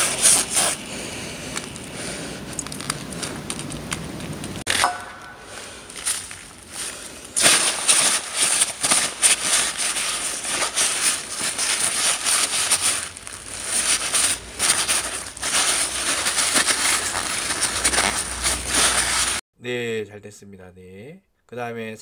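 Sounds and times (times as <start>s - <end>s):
paper towel rubbing and crinkling: 0.0s - 4.7s, 5.9s - 19.4s.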